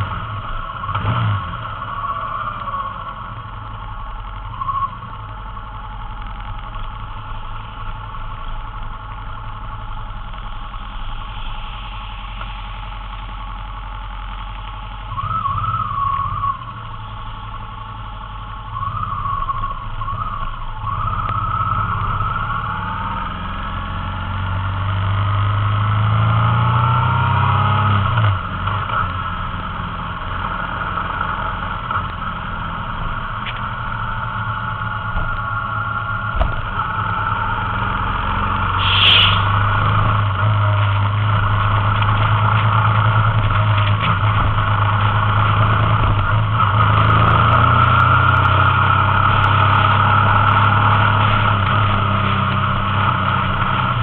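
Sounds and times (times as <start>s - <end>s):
motorcycle engine revving: 0.0s - 4.6s, 15.3s - 54.0s
motorcycle accelerating: 0.0s - 54.0s.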